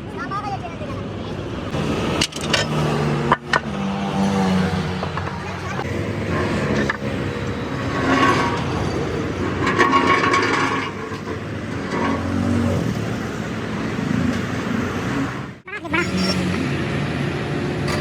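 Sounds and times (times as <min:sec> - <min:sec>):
road traffic hum: 0:00.0 - 0:18.0
vehicles passing: 0:00.0 - 0:18.0.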